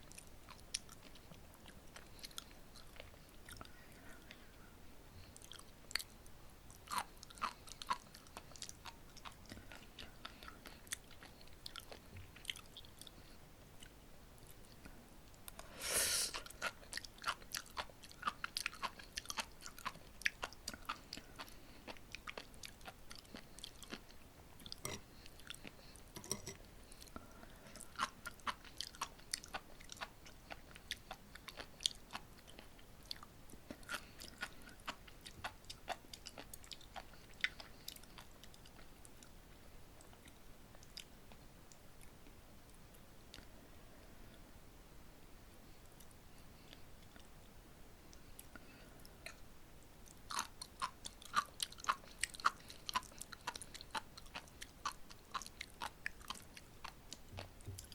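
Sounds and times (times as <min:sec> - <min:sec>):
chewing with popping beads: 0:00.0 - 0:04.4, 0:05.1 - 0:15.7, 0:16.4 - 0:43.5, 0:48.1 - 0:57.9.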